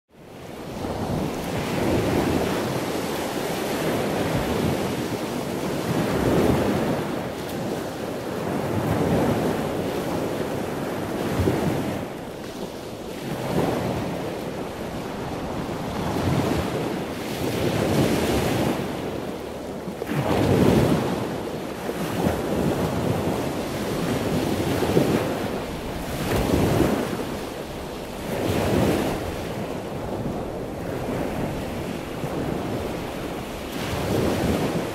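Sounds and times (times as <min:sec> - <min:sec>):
waves breaking and washing in: 0:00.1 - 0:34.9.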